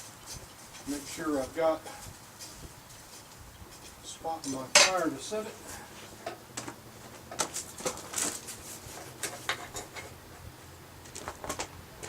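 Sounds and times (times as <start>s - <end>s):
metal shifting against coal: 0.0s - 12.0s.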